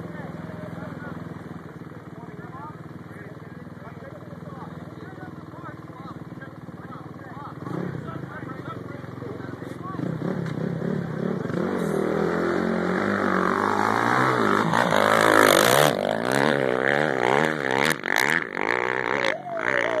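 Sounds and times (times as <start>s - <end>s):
dirt bike engine passing: 2.1s - 20.0s.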